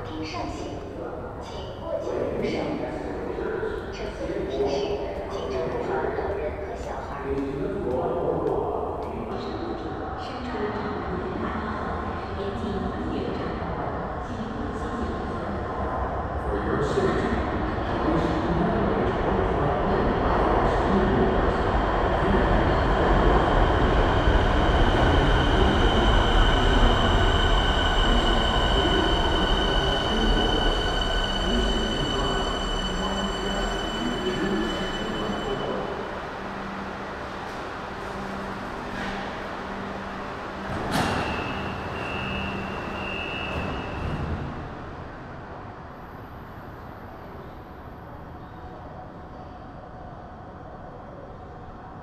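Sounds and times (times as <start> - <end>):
train rumbling on rails: 0.0 - 52.0.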